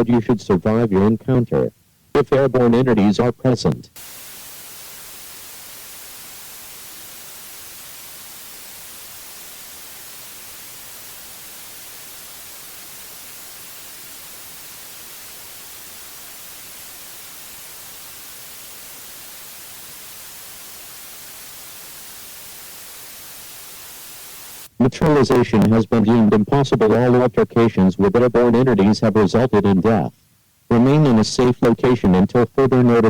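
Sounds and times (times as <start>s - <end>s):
static hiss: 0.0s - 33.0s.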